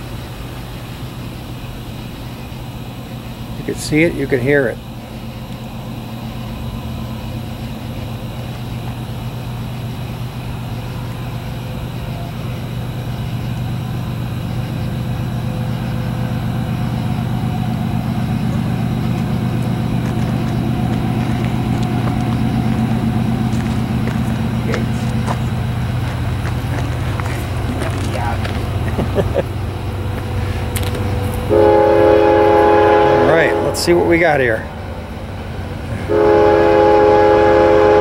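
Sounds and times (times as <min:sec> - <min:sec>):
diesel locomotive engine drone: 0:00.0 - 0:38.0.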